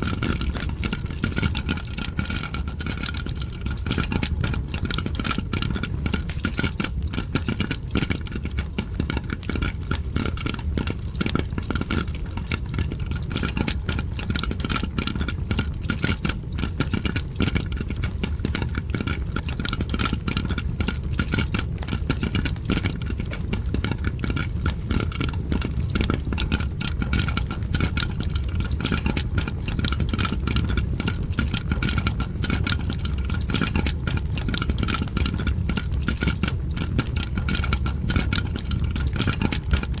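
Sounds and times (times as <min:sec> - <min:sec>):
popcorn popping in a pot: 0:00.0 - 0:40.0.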